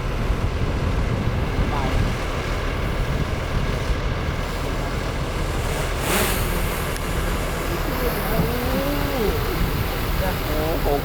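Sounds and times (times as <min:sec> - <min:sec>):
heavy diesel engine rumbling: 0:00.0 - 0:11.0.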